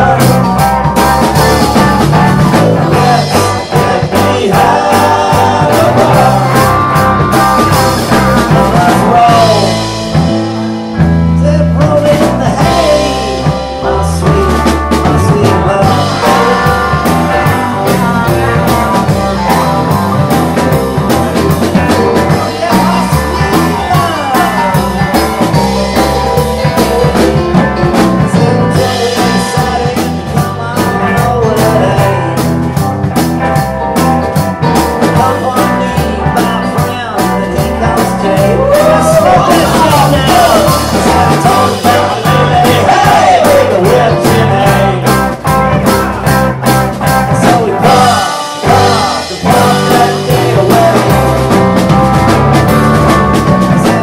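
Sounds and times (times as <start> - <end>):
drum kit: 0.0 - 54.0
electric guitars: 0.0 - 54.0
stage piano: 0.0 - 54.0.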